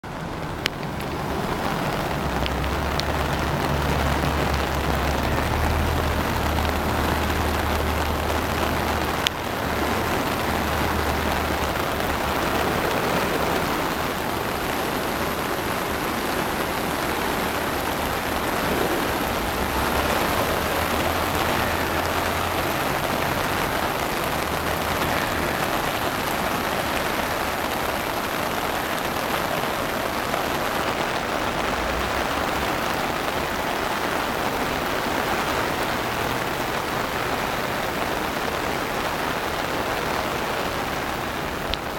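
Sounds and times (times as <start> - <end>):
heavy rain hiss: 0.0 - 41.9
rushing floodwater: 0.0 - 41.9.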